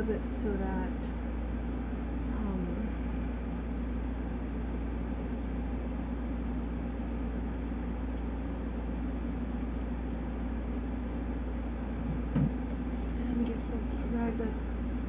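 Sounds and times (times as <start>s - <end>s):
appliance humming and whirring: 0.0s - 15.0s.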